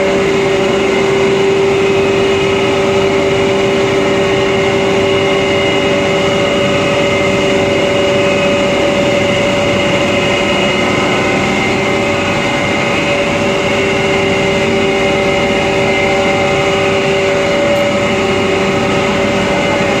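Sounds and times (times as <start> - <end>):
grinding machine droning: 0.0 - 20.0.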